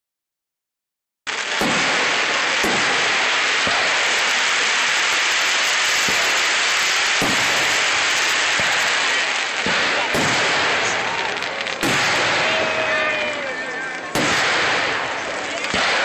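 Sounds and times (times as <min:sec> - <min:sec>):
fireworks hissing and crackling: 0:01.3 - 0:16.0.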